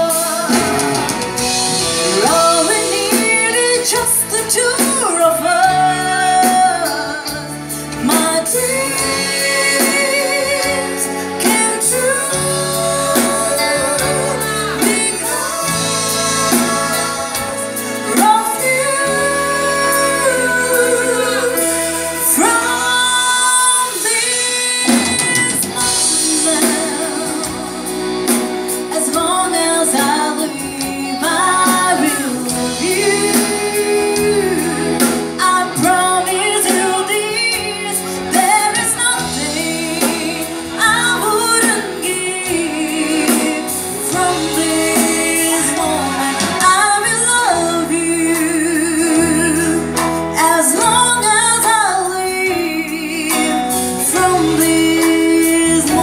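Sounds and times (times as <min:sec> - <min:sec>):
live band playing: 0:00.0 - 0:56.0
woman singing: 0:00.0 - 0:56.0.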